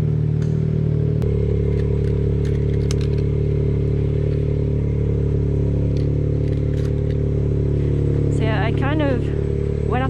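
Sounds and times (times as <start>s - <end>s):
engines idling: 0.0s - 10.0s.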